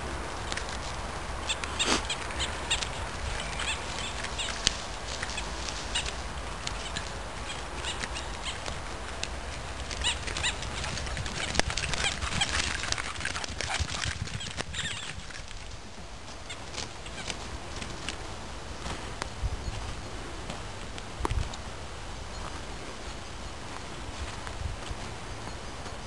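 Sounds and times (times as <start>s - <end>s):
dogs running on dry twigs: 0.3s - 21.6s.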